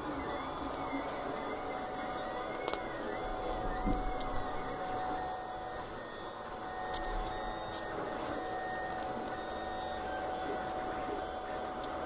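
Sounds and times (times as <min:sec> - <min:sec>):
printer whirring: 0:00.0 - 0:12.0
stepper motors whining: 0:00.0 - 0:12.0.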